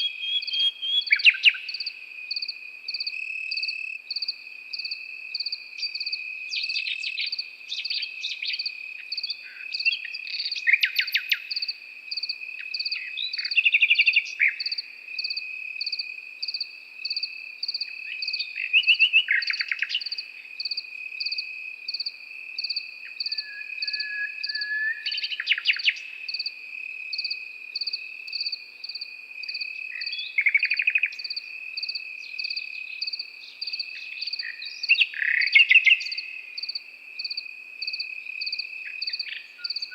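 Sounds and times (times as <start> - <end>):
cricket chirping rhythmically: 0.0 - 39.9
cricket trilling: 0.0 - 39.9
nightingale singing: 0.0 - 39.9.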